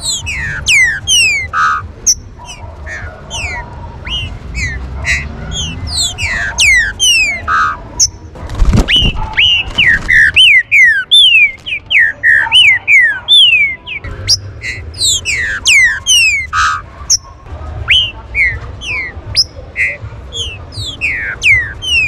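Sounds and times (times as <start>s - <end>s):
birds whistling calls: 0.0s - 22.0s.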